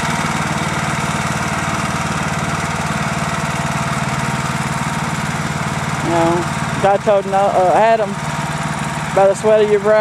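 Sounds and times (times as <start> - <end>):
tiller engine running: 0.0 - 10.0.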